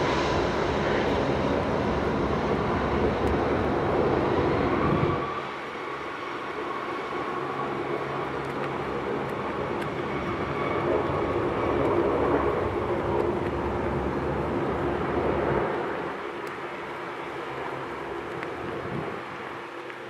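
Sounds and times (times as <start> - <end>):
jet engines whine and rumble: 0.0 - 20.0.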